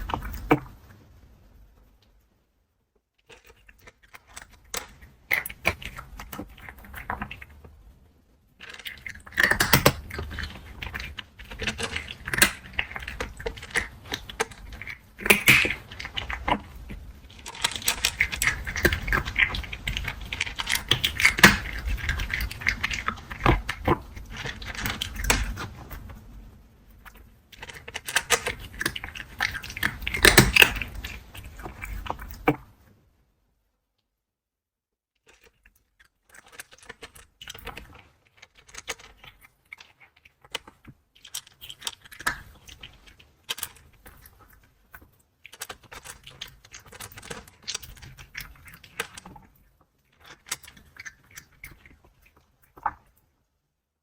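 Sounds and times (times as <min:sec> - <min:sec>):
cat crunching dry kibble: 0:00.0 - 0:01.0, 0:03.2 - 0:07.8, 0:08.5 - 0:32.7, 0:35.2 - 0:53.2.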